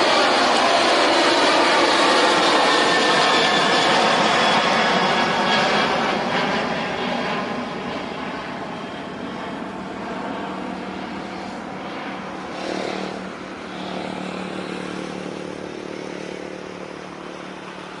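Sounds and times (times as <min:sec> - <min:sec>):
airliner engines roaring at takeoff: 0:00.0 - 0:18.0.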